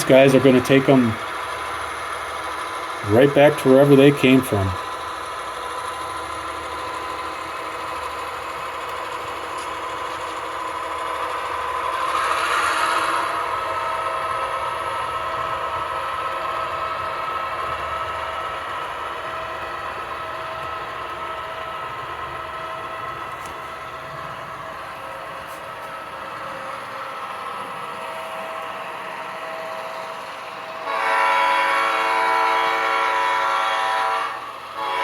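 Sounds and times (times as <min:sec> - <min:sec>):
model locomotives humming: 0:00.0 - 0:35.0.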